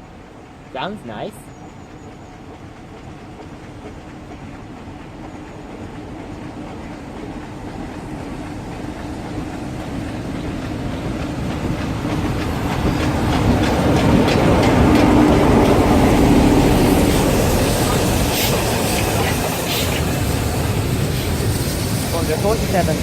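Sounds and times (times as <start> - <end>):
diesel locomotive engine: 0.0 - 23.0
train wheels clicking over rail joints: 2.4 - 23.0.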